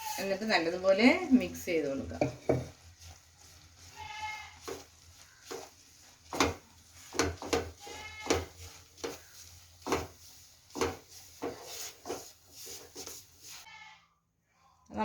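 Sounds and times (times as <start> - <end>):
spoon scraping a pan: 0.0 - 13.9.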